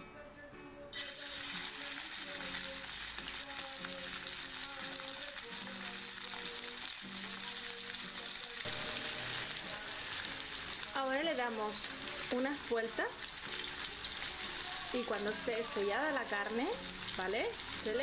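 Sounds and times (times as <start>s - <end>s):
meat sizzling in a frying pan: 1.0s - 18.0s.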